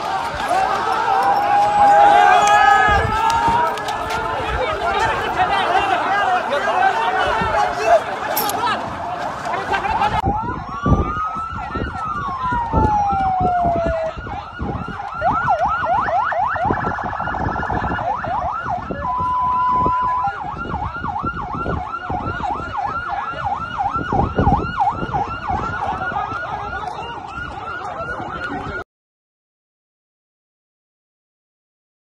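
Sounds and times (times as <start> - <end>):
sirens wailing in rapid yelp: 0.0 - 28.8.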